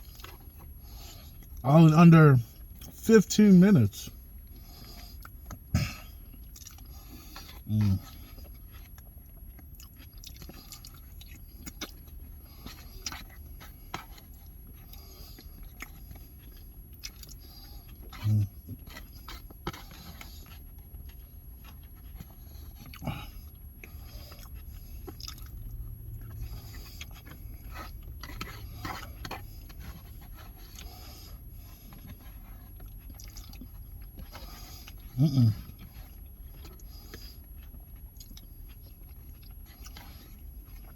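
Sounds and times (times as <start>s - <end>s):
person chewing: 0.0s - 40.9s.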